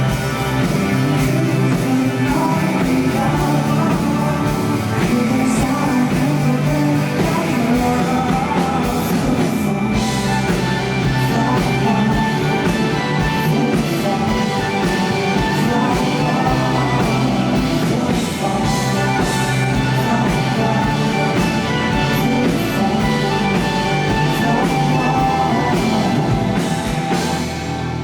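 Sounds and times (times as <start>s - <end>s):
drum kit steady beat: 0.0s - 28.0s
live rock band playing: 0.0s - 28.0s.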